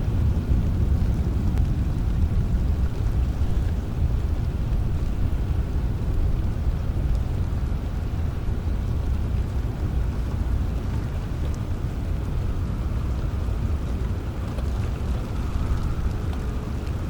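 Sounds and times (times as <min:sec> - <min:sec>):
deep low rumble: 0:00.0 - 0:17.0
steady rain: 0:00.0 - 0:17.0.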